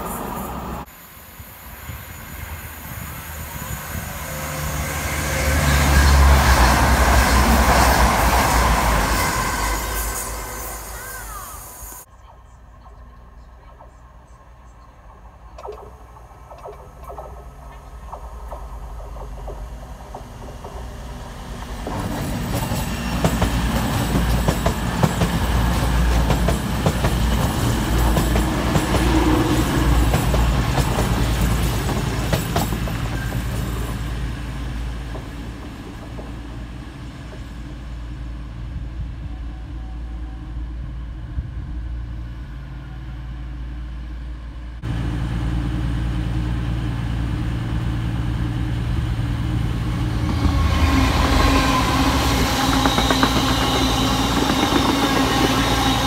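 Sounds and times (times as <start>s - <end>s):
low diesel train rumble: 0.0s - 56.0s
train passing at speed: 0.0s - 56.0s.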